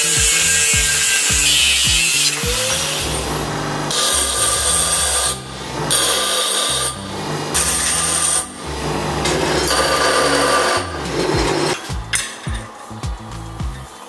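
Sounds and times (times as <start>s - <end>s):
bench grinder grinding steel: 0.0s - 12.0s.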